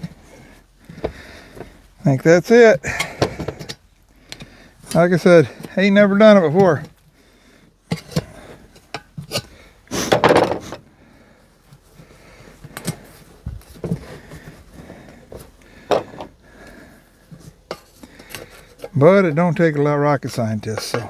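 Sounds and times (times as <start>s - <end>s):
tire handling knocks and clicks: 0.0s - 7.2s, 7.8s - 21.0s.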